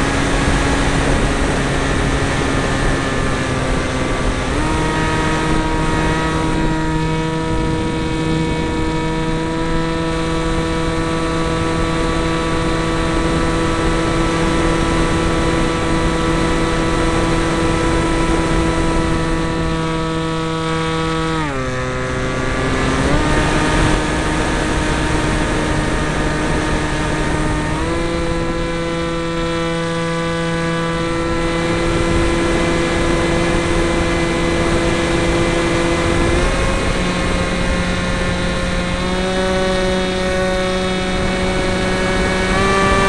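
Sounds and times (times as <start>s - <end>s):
model plane motor whine: 0.0s - 43.0s.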